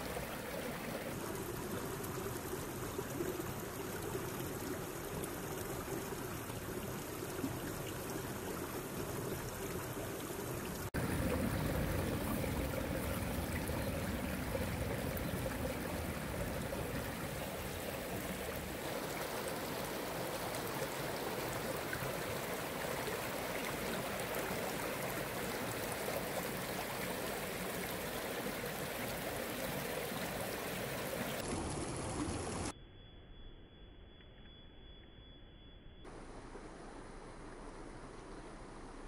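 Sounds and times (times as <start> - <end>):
stream running over rocks: 0.0 - 32.7.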